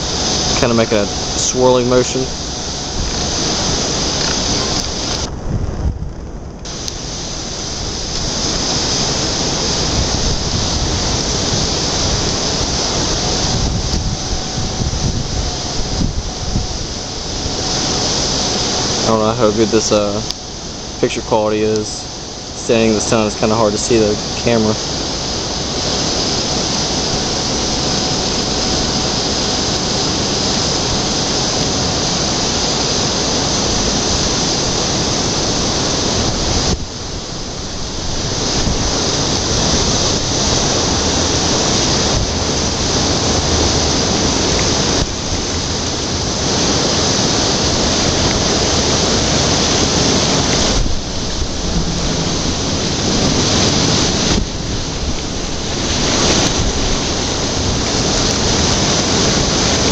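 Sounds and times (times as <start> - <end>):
water rushing into whirlpools: 0.0 - 5.9, 6.6 - 59.9.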